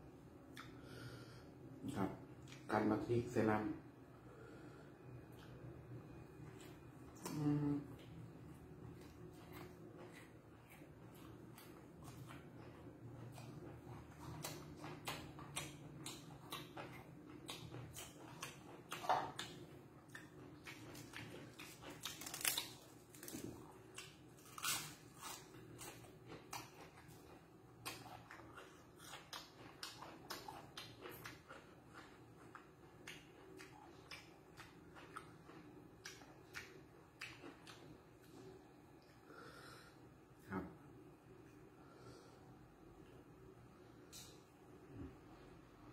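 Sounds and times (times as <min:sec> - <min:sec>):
man chewing food: 0:00.0 - 0:02.7, 0:04.1 - 0:40.0.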